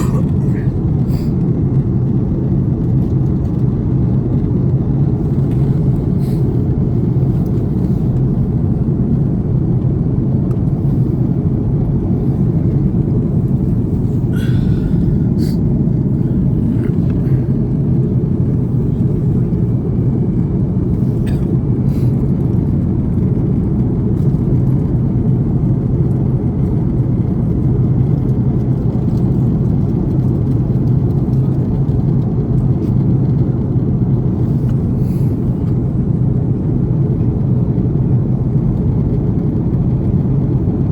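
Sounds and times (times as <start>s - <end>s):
airplane cabin engine noise: 0.0s - 40.9s.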